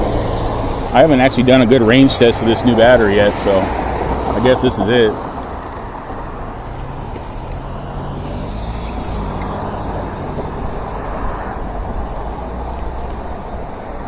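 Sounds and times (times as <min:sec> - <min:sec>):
electric bike road noise: 0:00.0 - 0:14.0
wind noise: 0:00.0 - 0:14.0.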